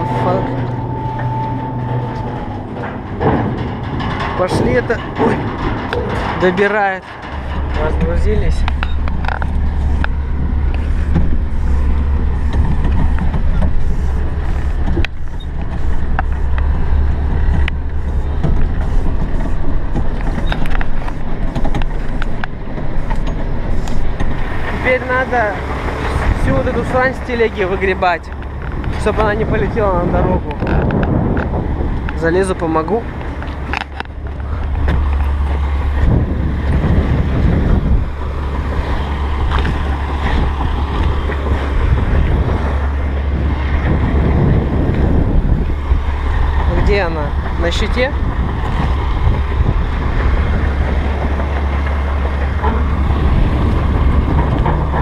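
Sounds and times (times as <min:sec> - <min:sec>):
diesel truck engine rumbling: 0:00.0 - 0:55.0
wind buffeting microphone: 0:00.0 - 0:55.0.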